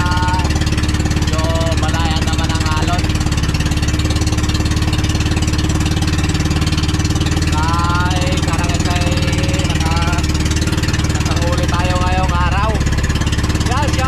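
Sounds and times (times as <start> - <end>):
boat engine puttering: 0.0 - 14.0.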